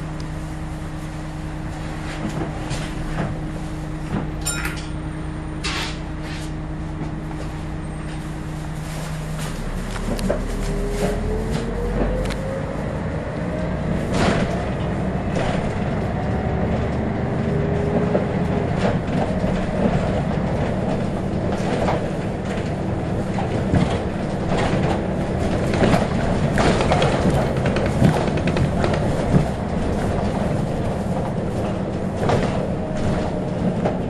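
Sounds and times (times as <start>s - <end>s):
bus body rattling: 0.0s - 34.0s
bus diesel engine rumble: 0.0s - 34.0s
road noise: 0.0s - 34.0s
rising drivetrain whine: 1.6s - 34.0s.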